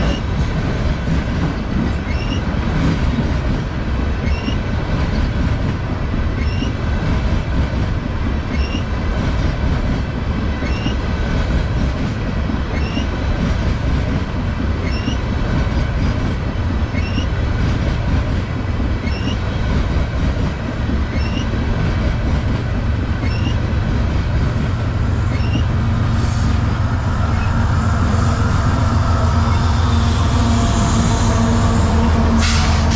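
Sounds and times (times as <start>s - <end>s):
locomotive engine drone: 0.0s - 32.9s
rail clicks: 0.0s - 32.9s
train wheels rumbling on rail: 0.0s - 32.9s.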